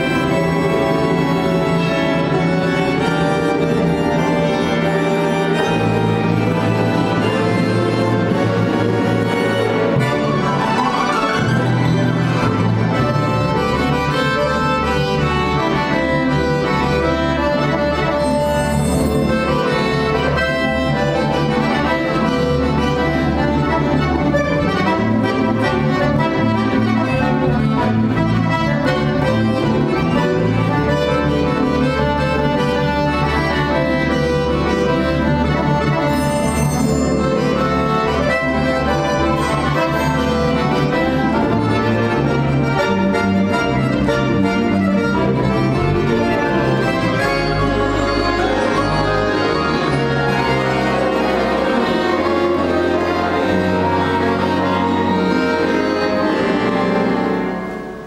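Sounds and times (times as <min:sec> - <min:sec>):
folk instrument orchestra: 0:00.0 - 0:58.0.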